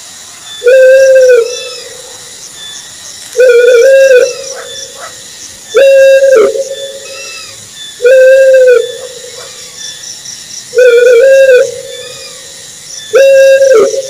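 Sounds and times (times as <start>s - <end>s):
faint steady hiss: 0.0s - 14.0s
owl hooting: 0.5s - 2.3s, 3.4s - 10.0s, 10.7s - 14.0s.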